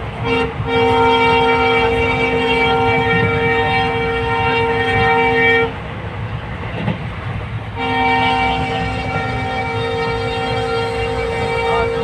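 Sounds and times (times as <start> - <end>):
train horn blasts: 0.0 - 5.8, 7.7 - 12.0
carriage rumbling on rails: 0.0 - 12.0.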